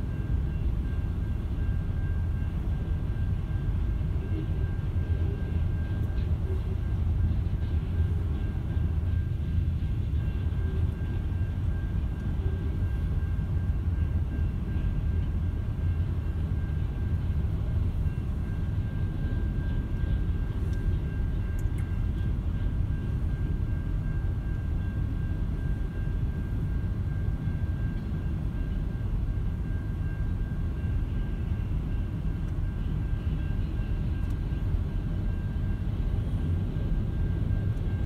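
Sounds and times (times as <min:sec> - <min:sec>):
train cars rumbling: 0:00.0 - 0:38.0.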